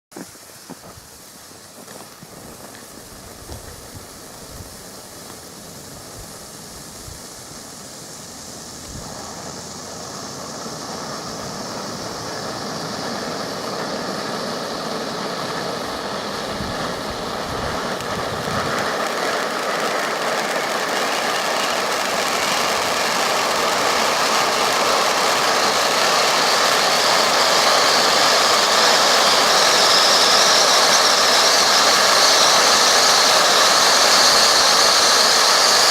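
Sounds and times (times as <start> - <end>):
firework fountain hissing sparks: 0.1 - 35.9.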